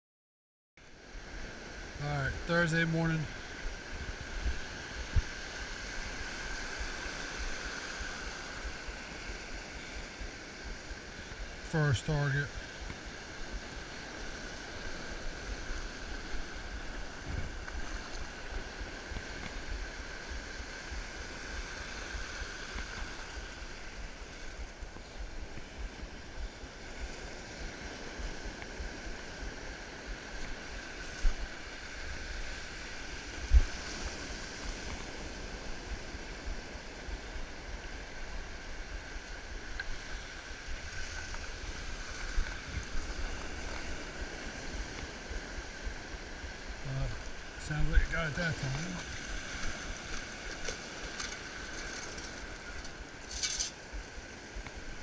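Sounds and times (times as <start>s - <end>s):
surf washing around legs: 1.1s - 55.0s.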